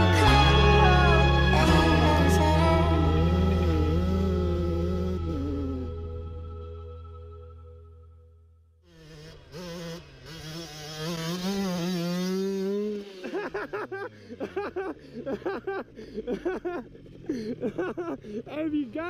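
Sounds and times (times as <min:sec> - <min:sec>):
dirt bike engine revving: 0:00.0 - 0:05.9, 0:08.9 - 0:19.0.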